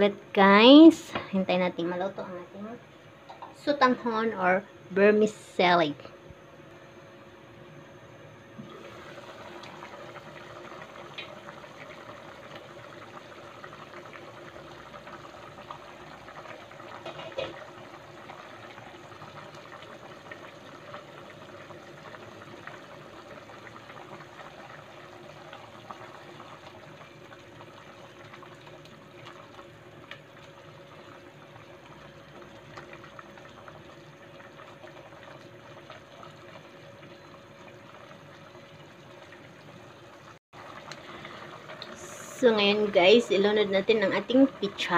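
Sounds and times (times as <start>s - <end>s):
soup bubbling at a rolling boil: 7.3s - 44.9s.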